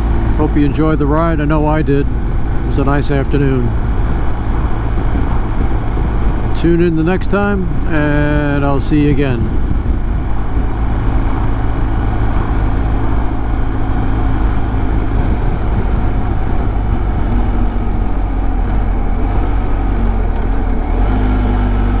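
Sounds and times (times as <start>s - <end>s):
motorcycle engine running: 0.0s - 22.0s
road noise: 0.0s - 22.0s
wind noise: 0.0s - 22.0s.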